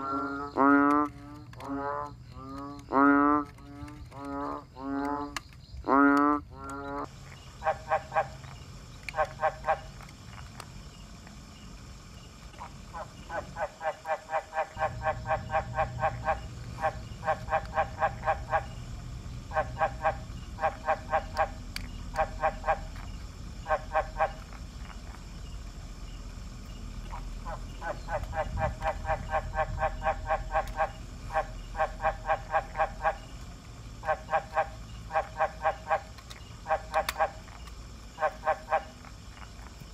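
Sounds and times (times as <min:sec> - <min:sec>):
frog croaking: 0:00.0 - 0:10.4, 0:12.2 - 0:39.9
low background hum: 0:00.0 - 0:39.9.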